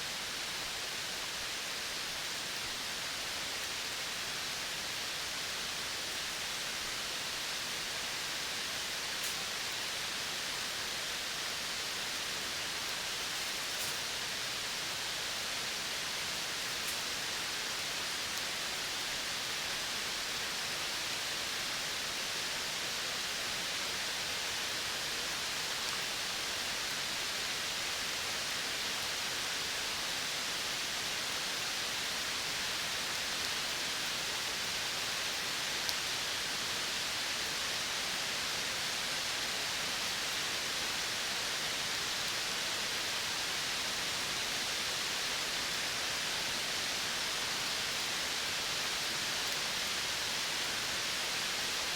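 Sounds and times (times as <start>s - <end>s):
steady outdoor hiss: 0.0s - 51.9s.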